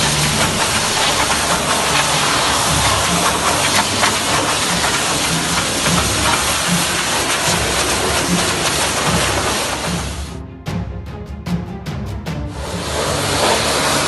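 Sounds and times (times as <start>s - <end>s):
pressure washer spraying water: 0.0s - 10.4s, 12.6s - 14.0s.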